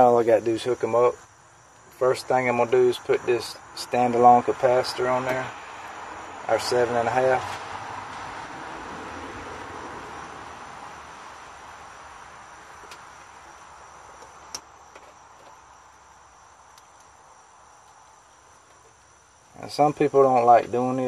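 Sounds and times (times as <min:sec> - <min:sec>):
soft hiss: 0:00.0 - 0:21.0.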